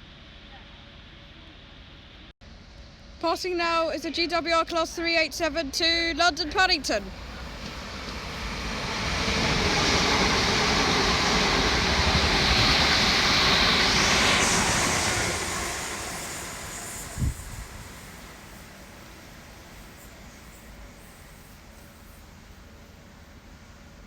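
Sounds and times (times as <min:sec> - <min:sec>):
train passing: 0:00.0 - 0:24.0.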